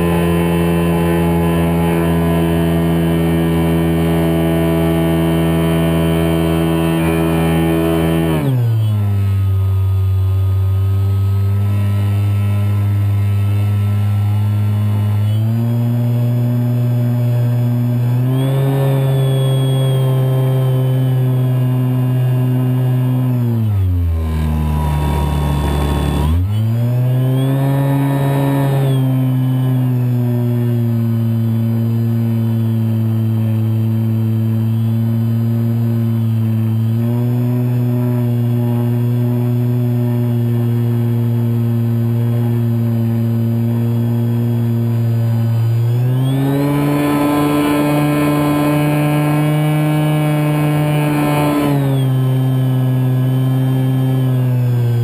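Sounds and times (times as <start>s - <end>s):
electric motor propeller whine: 0.0s - 55.0s.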